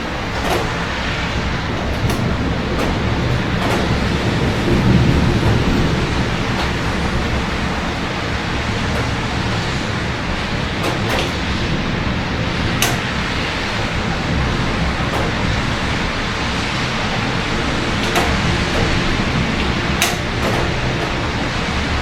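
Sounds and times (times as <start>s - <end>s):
city traffic rumble: 0.0s - 22.0s
rain hiss: 0.0s - 22.0s.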